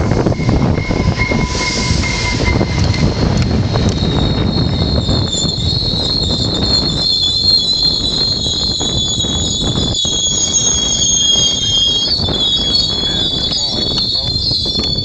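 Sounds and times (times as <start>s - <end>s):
train cars rumbling: 0.0s - 15.0s
train wheels squealing: 0.0s - 15.0s.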